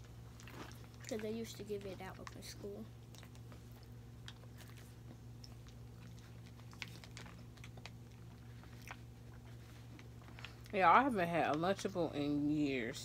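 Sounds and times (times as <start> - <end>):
chewing crackers: 0.0 - 10.8
steady low hum: 0.0 - 13.0.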